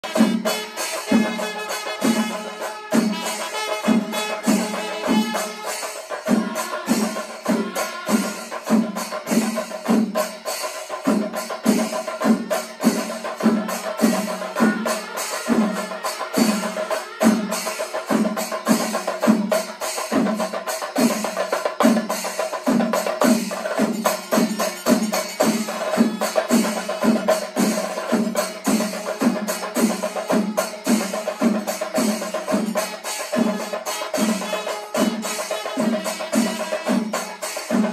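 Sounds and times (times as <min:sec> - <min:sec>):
drums played with sticks: 0:00.0 - 0:37.9.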